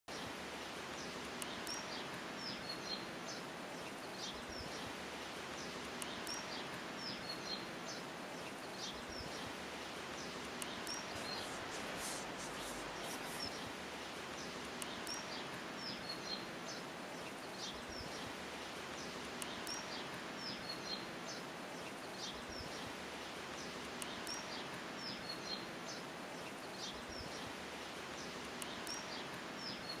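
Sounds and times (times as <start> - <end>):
outdoor background hiss: 0.1 - 30.0
small birds chirping: 0.1 - 30.0.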